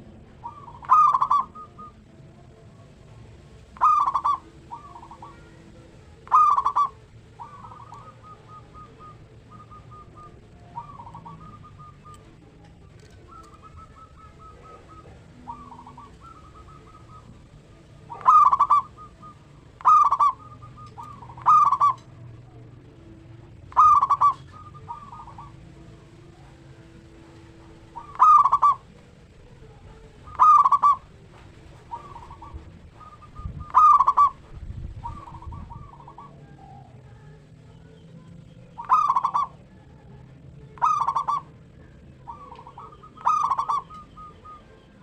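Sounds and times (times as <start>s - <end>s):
doves cooing: 0.0s - 45.0s.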